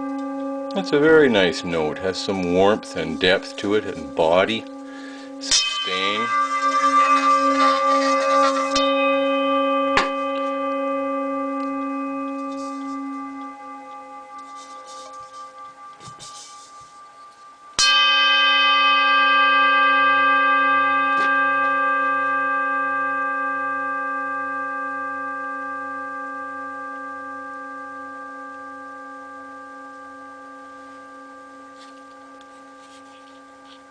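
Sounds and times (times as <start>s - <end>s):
singing bowl ringing: 0.0s - 33.9s.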